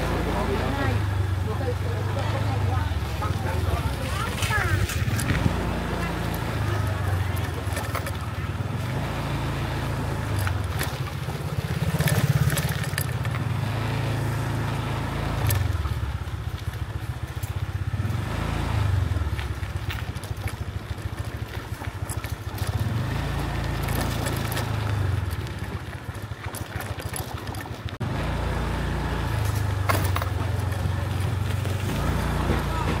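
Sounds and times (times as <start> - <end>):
small motorbike engines rumbling: 0.0 - 33.0.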